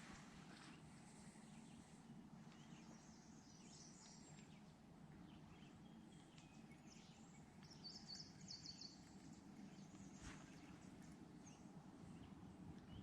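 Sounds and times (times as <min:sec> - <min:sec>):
low background rumble: 0:00.0 - 0:13.0
small birds chirping faintly: 0:00.0 - 0:13.0.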